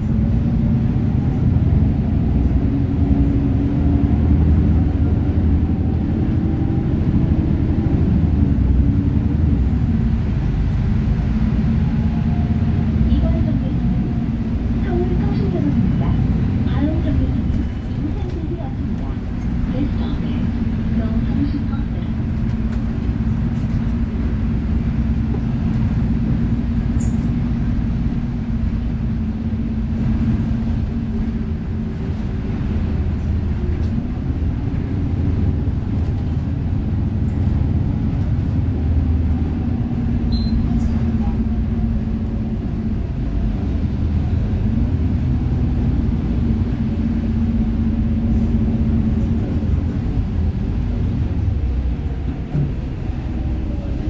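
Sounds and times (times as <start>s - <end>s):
bus engine drone: 0.0s - 54.0s
road rumble: 0.0s - 54.0s.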